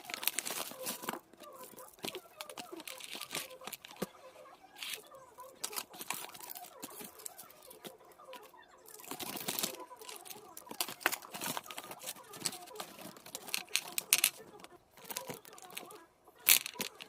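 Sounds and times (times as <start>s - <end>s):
packaging crinkling and tearing: 0.0s - 4.1s, 4.7s - 17.0s.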